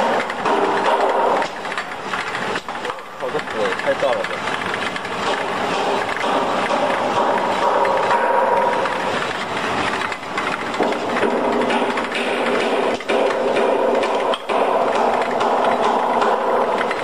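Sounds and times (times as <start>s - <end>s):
machine mechanical clatter: 0.0s - 17.0s.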